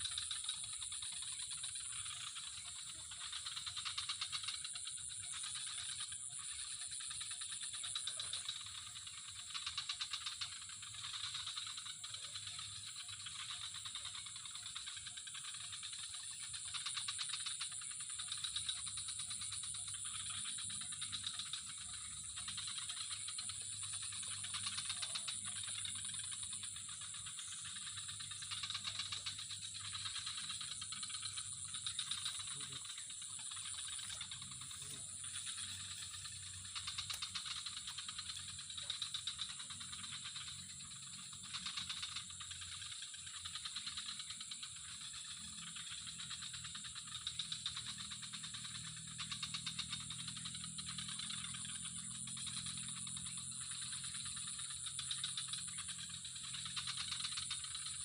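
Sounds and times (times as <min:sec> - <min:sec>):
insect chorus: 0:00.0 - 0:58.0.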